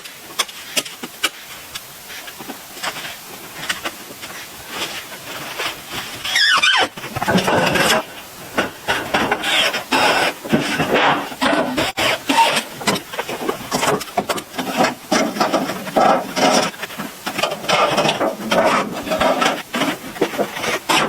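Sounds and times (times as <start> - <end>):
hand tool rasping wood: 0.0 - 21.0.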